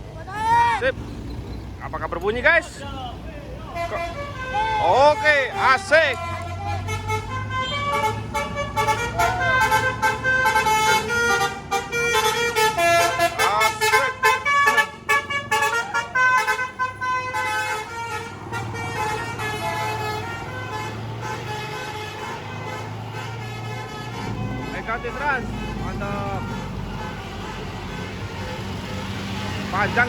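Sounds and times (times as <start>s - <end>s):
multi-tone bus horn melody: 3.7s - 30.0s.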